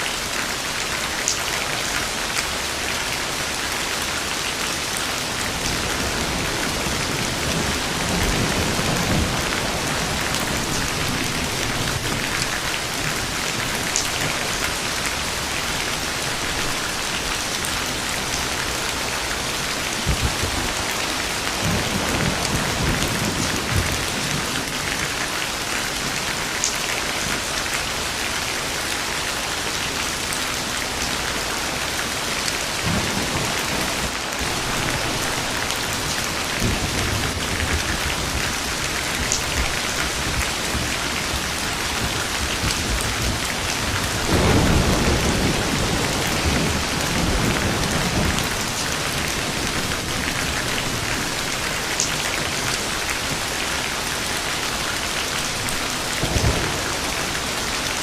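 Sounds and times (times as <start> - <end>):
rain falling: 0.0 - 58.0
thunder rumbling: 4.8 - 26.4, 30.9 - 58.0.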